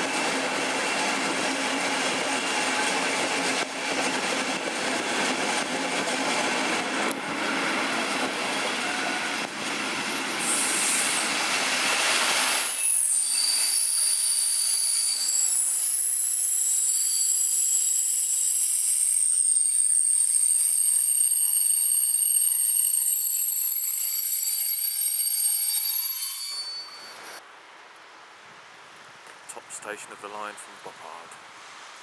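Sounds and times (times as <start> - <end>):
diesel train running: 0.0 - 27.2
train wheels squealing on rails: 0.0 - 27.4.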